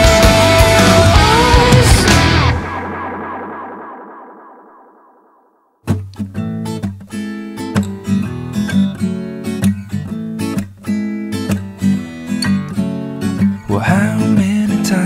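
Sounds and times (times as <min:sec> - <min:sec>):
acoustic guitar strumming: 0:00.0 - 0:05.1, 0:05.8 - 0:15.0.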